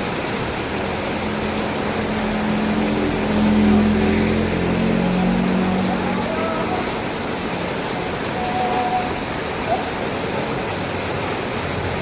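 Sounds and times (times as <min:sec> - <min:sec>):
heavy rain falling: 0:00.0 - 0:12.0
vehicle engine hum: 0:00.0 - 0:12.0.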